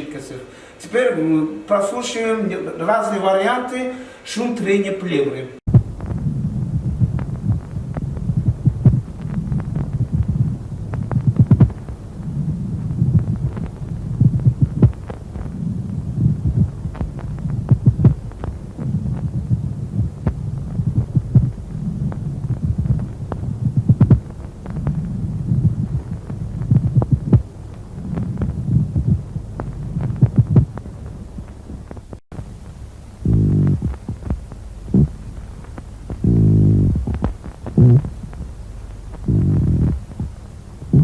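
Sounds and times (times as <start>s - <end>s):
breath noise through stethoscope: 0.4s - 0.8s, 3.9s - 4.3s, 5.7s - 32.2s, 33.1s - 41.0s
sharp rubbing clicks: 5.7s - 41.0s.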